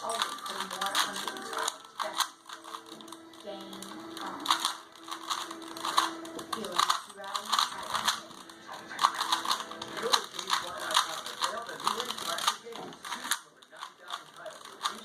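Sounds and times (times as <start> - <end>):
puzzle cube clicking and rattling: 0.0 - 15.0.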